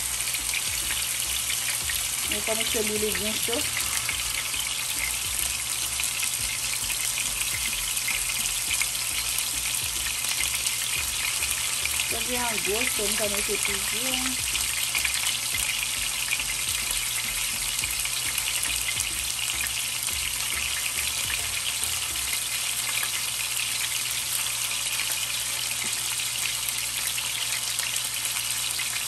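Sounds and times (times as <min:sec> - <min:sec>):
steak sizzling in oil: 0:00.0 - 0:29.0.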